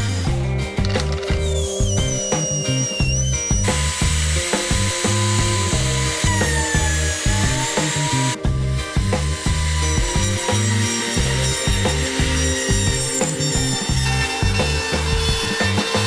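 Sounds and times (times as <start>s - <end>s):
background music with bass line: 0.0s - 16.0s
power tool cutting wood: 0.0s - 16.0s.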